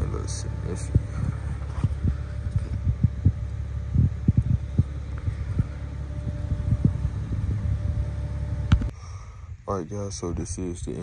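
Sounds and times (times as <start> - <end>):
truck engine idling: 0.0 - 9.2.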